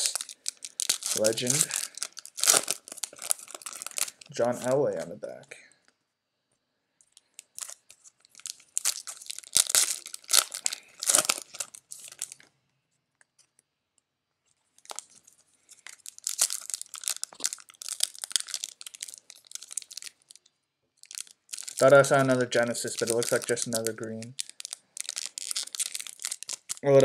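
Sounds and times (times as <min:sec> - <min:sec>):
card wrapper crinkling and rustling: 0:00.0 - 0:05.1, 0:07.0 - 0:12.5, 0:14.8 - 0:27.0.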